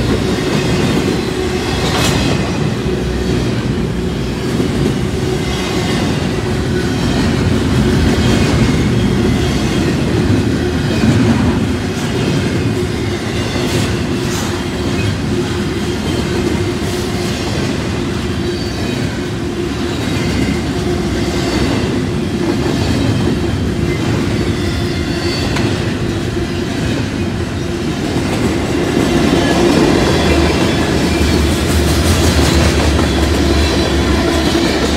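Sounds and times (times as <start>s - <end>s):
freight train wheels rumbling on rail: 0.0s - 34.9s.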